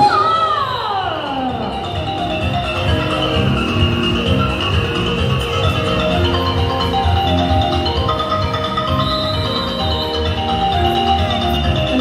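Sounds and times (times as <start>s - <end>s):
music with bass beat and melody: 1.6s - 12.0s.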